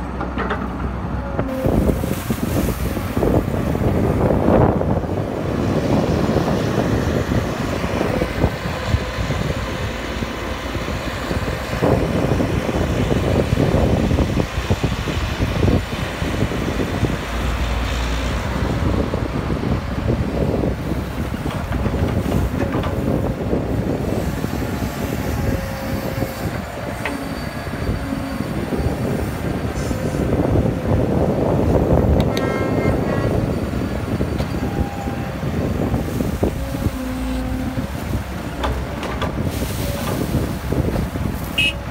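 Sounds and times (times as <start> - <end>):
excavator engine droning: 0.0 - 41.9.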